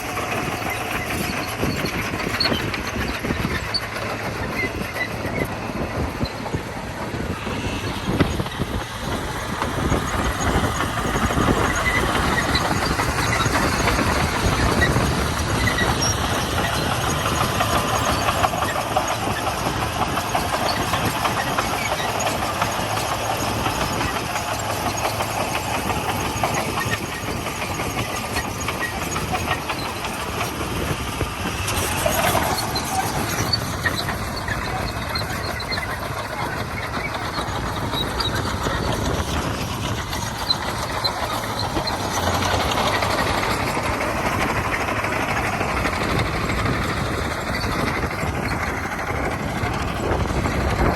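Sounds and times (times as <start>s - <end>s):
bulldozer diesel engine running: 0.0s - 50.9s
steel tracks rattling on gravel: 0.0s - 50.9s.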